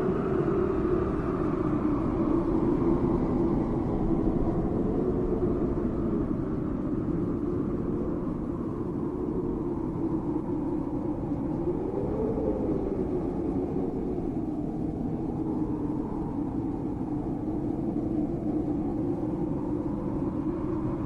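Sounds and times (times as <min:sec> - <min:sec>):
ambient drone with wavering tone: 0:00.0 - 0:21.0.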